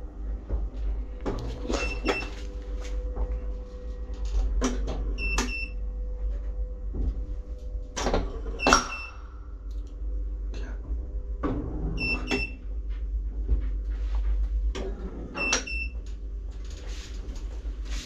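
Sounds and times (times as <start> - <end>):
elevator clanking and rattling: 0.0 - 18.0
steady low hum: 0.0 - 18.0.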